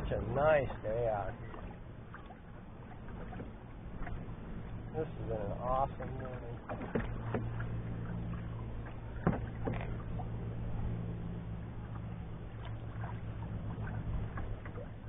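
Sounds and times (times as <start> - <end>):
steady low rumble: 0.0 - 15.0
water lapping against canoe hull: 0.0 - 15.0.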